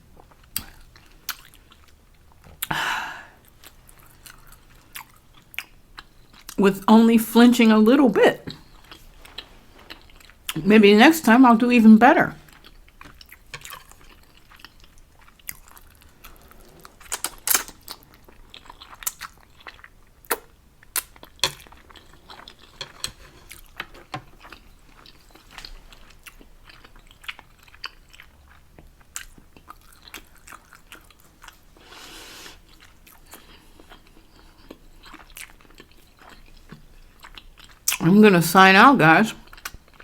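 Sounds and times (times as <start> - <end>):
close chewing and mouth clicks: 0.0 - 2.7, 3.4 - 6.6, 8.5 - 10.6, 12.4 - 38.0, 39.4 - 40.0.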